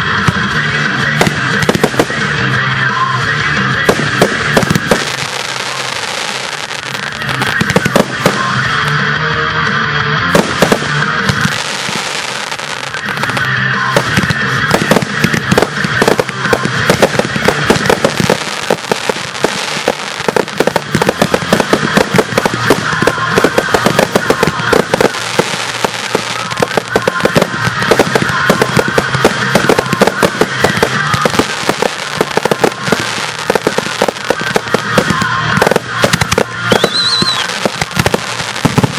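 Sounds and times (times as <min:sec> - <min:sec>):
fireworks bursting: 0:00.0 - 0:09.2, 0:10.2 - 0:38.9
music playing: 0:00.0 - 0:38.9.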